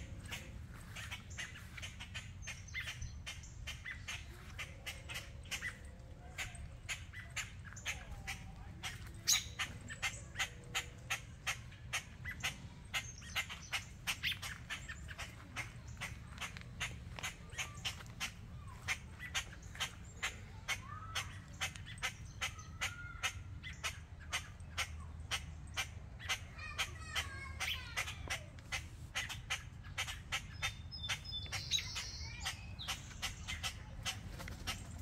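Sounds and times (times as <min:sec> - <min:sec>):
other birds chirping: 0:00.0 - 0:35.0
bird alarm chips: 0:00.2 - 0:28.1, 0:28.7 - 0:35.0.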